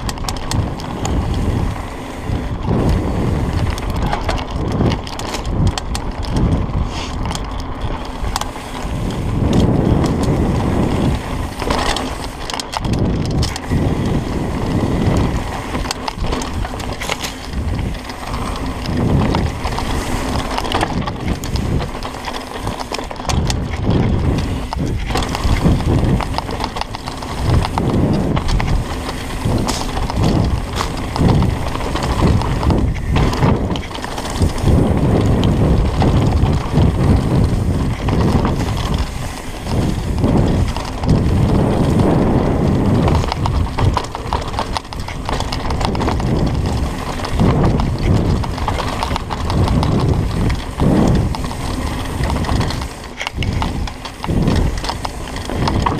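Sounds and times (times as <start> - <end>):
bike rattling and clattering: 0.0 - 55.9
bike tyres rolling over dirt: 0.0 - 55.9.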